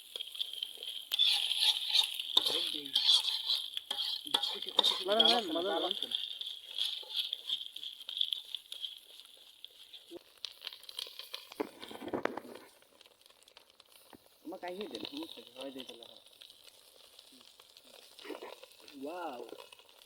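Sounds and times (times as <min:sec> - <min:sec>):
spatula scraping a pan: 0:00.0 - 0:14.2, 0:16.1 - 0:20.0
noodles sizzling in a pan: 0:00.0 - 0:20.0.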